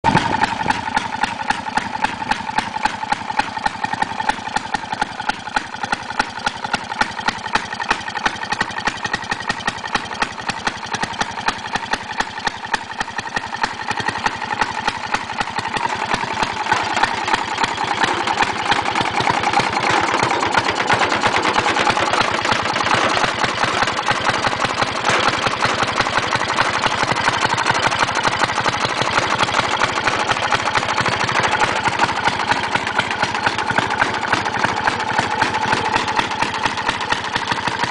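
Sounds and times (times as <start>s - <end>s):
garden tractor engine running: 0.0s - 37.9s.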